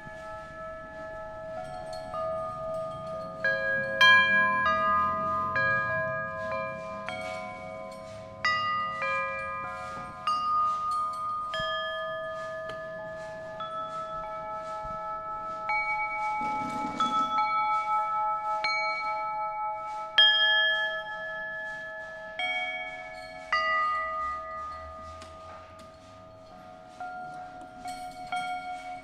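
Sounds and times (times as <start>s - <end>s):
tubular chimes ringing: 0.0s - 29.0s.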